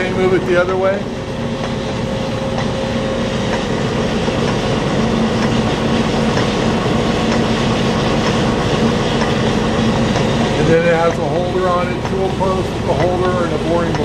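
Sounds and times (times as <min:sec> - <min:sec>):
lathe gear and drive clatter: 0:00.0 - 0:14.0
low hum: 0:00.0 - 0:14.0.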